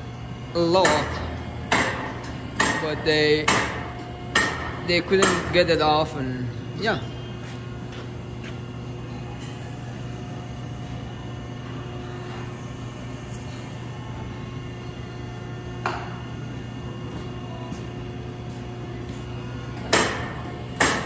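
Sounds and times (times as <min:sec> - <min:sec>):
electric hum of power unit: 0:00.0 - 0:21.0.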